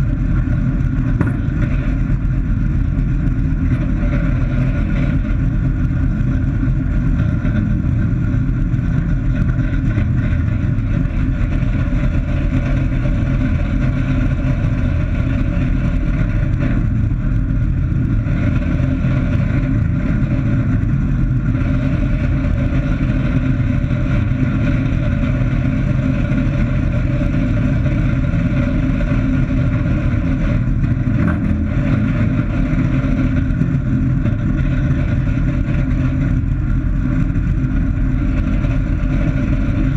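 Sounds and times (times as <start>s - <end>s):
propeller airplane engine running: 0.0s - 39.9s.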